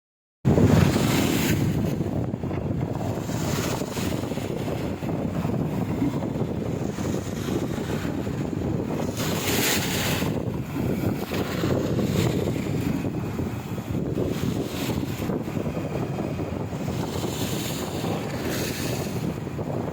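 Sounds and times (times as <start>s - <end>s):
wind buffeting microphone: 0.4s - 19.9s
sea water washing: 0.5s - 19.9s.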